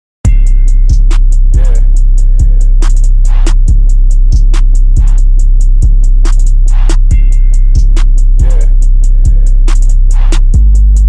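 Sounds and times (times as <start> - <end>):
drum-machine kicks: 0.2 - 11.0
heavy sub-bass: 0.2 - 11.0
rapid hi-hat ticks: 0.3 - 11.0.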